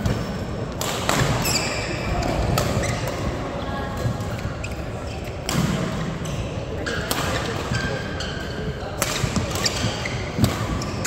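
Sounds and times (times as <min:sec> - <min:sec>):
shoes squeaking on court floor: 0:01.2 - 0:03.4, 0:04.0 - 0:11.0.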